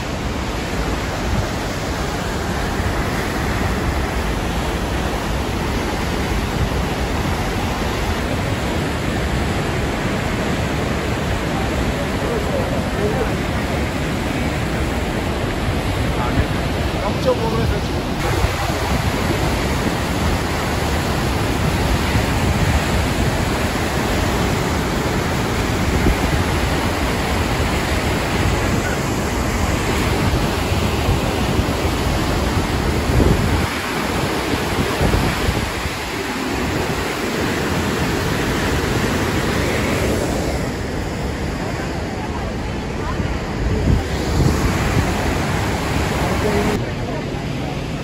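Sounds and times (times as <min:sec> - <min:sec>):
waterfall rushing: 0:00.0 - 0:48.0
wind rumbling on microphone: 0:00.0 - 0:48.0.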